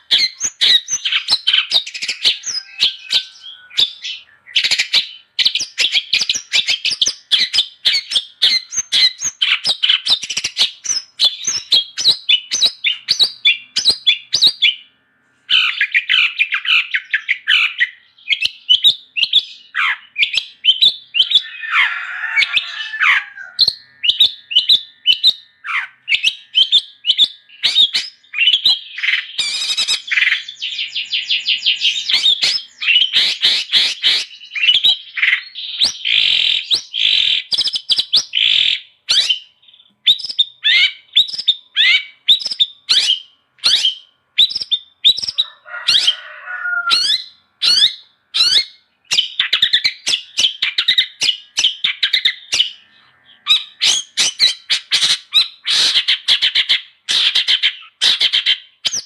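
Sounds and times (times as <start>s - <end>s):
shrike chirping song: 0.0s - 59.0s.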